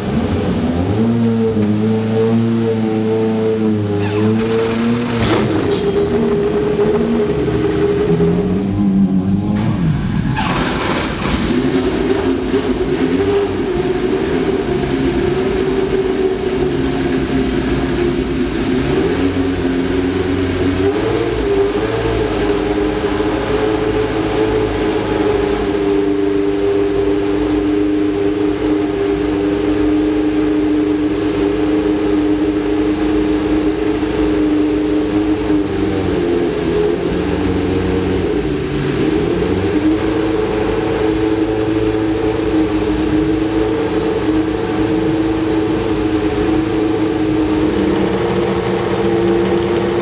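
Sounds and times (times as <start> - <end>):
race car engine idling: 5.9 - 50.0.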